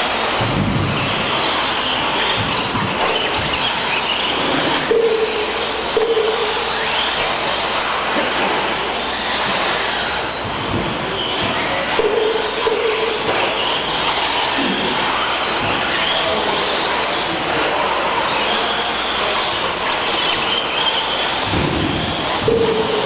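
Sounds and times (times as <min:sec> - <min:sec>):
electric rc trucks racing: 0:00.0 - 0:23.0.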